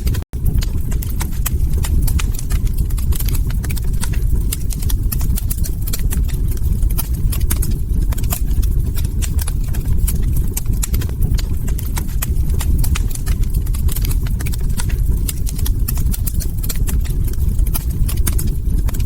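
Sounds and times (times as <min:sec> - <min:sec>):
log fire crackling: 0:00.4 - 0:19.0.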